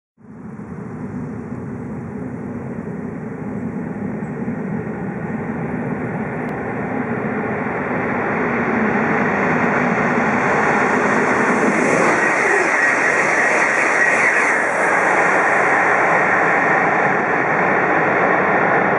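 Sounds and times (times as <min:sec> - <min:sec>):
approaching train rushing: 0:00.8 - 0:18.9.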